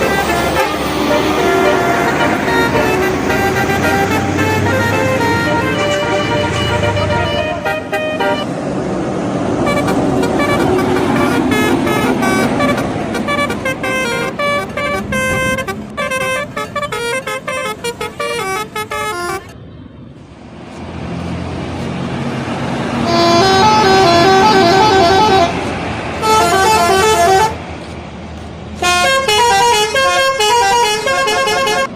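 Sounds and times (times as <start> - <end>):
electric trumpet horns melody: 0.0 - 8.5, 9.6 - 19.5, 23.0 - 27.6, 28.8 - 31.9.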